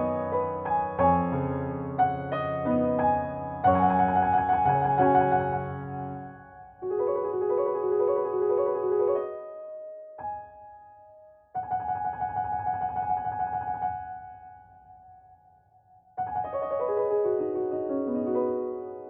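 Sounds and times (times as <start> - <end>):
piano music: 0.0 - 15.4, 16.1 - 19.0.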